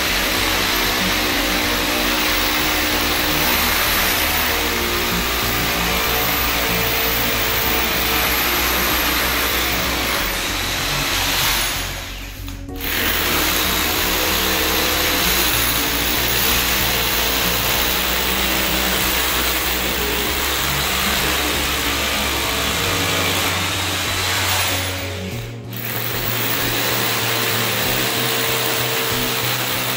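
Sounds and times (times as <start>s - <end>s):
background music: 0.0s - 29.9s
electric drill boring into stone: 0.0s - 29.9s.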